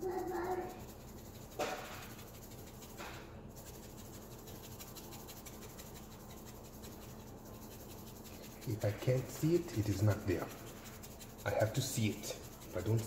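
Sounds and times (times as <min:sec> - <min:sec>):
pepper mill grinding: 0:00.0 - 0:13.0.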